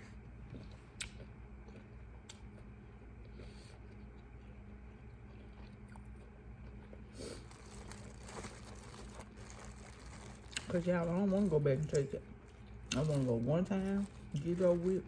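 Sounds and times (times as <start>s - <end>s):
steady low hum: 0.0s - 15.0s
chewing and biting food: 0.4s - 15.0s.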